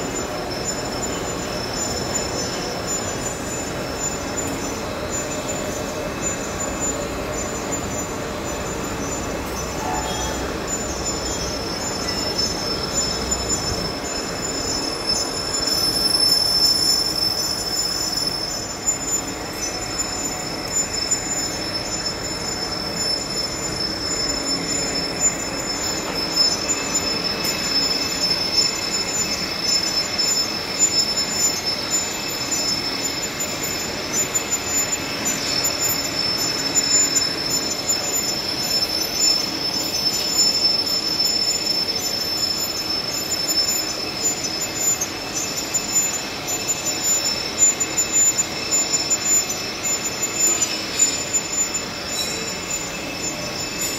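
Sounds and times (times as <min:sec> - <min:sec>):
high-pitched whine: 0:00.0 - 0:53.9.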